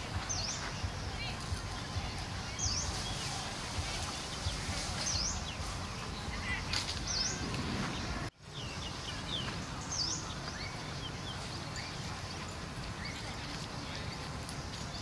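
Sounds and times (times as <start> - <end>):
high bird chirps: 0.1 - 15.0.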